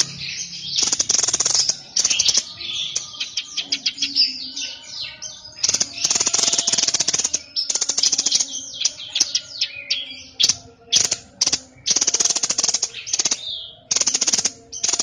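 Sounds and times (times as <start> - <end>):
songbird trilling: 0.0 - 15.0.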